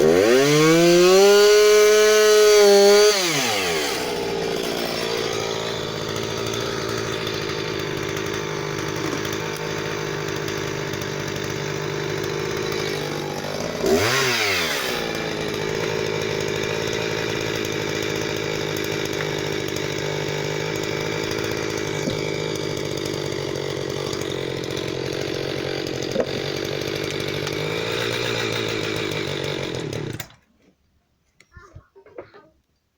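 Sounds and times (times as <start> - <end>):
chainsaw cutting wood: 0.0 - 30.5.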